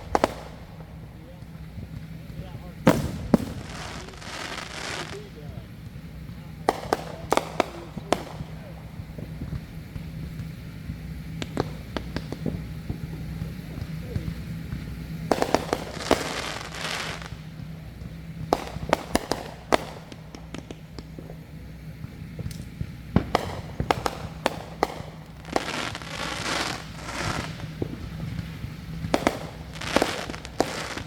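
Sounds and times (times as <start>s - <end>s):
fireworks bangs: 0.0s - 31.0s
fireworks crackling bursts: 0.0s - 31.0s.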